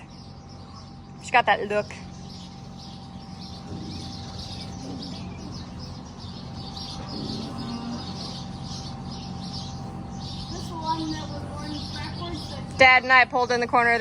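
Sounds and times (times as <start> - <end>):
low mechanical hum: 0.0 - 14.0
small birds chirping: 0.0 - 14.0.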